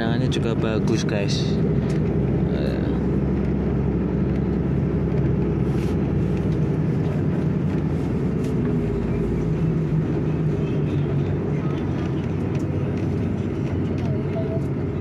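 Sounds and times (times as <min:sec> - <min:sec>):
road noise: 0:00.0 - 0:15.0
vehicle engine drone: 0:00.0 - 0:15.0.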